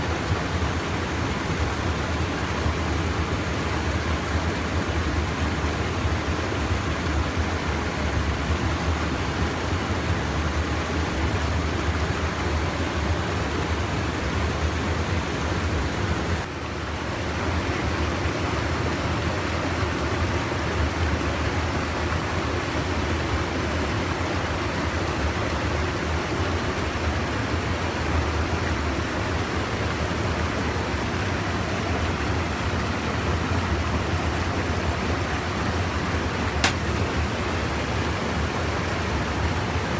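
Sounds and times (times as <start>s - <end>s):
stream water rushing over dam: 0.0s - 39.9s.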